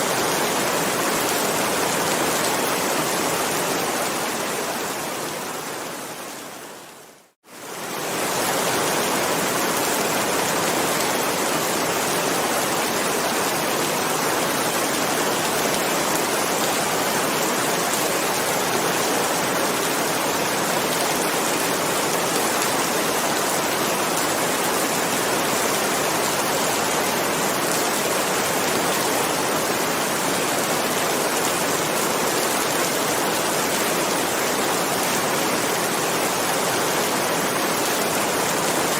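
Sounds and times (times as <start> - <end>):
steady dense rain: 0.0 - 38.9.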